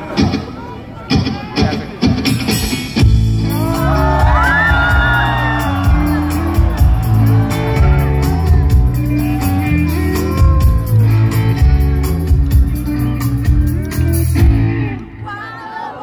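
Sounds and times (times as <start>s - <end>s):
live rock band playing: 0.0s - 15.1s.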